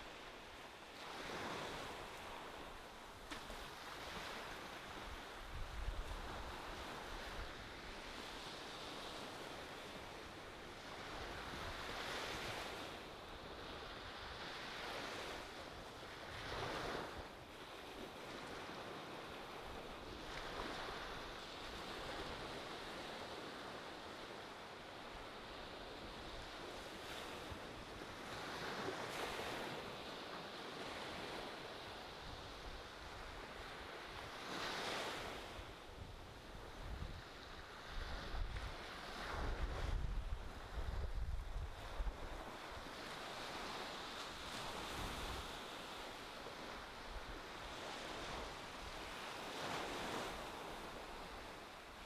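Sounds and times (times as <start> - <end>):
small waves washing on beach: 0.0 - 52.0.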